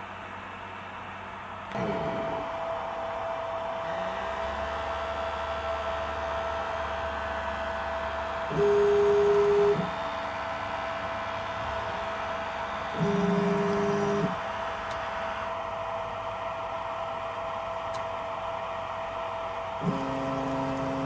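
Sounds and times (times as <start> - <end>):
machine humming: 0.0 - 21.0
stepper motor whine: 1.7 - 21.0.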